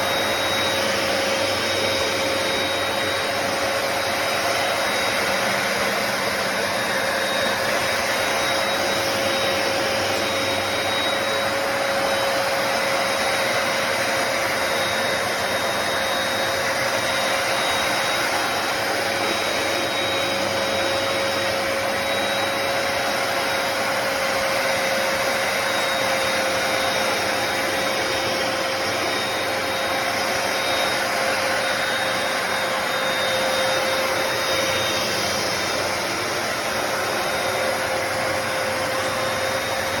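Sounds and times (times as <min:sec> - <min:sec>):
carpet cleaner suction motor: 0:00.0 - 0:40.0.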